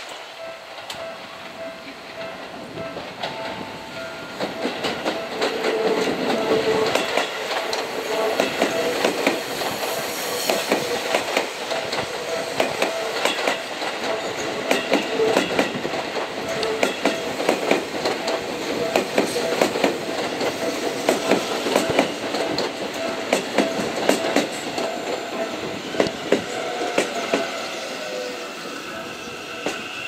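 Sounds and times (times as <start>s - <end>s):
train wheels clattering on rails: 0.0s - 27.7s, 29.0s - 30.0s.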